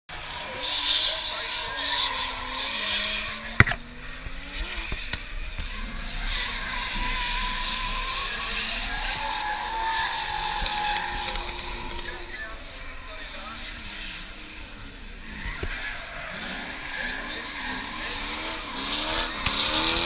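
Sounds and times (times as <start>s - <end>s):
distant car engines revving: 0.1s - 20.0s.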